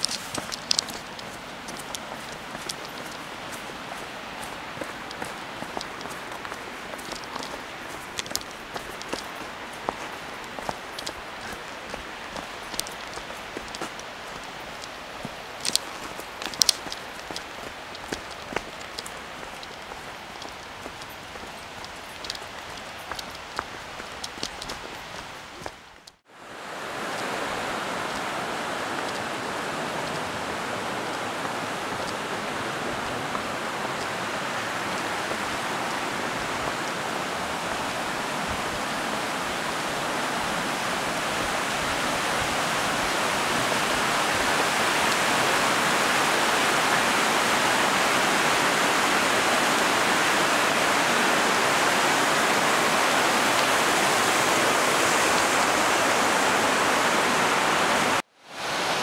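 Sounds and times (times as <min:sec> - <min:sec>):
rushing creek water: 0:00.0 - 0:59.0.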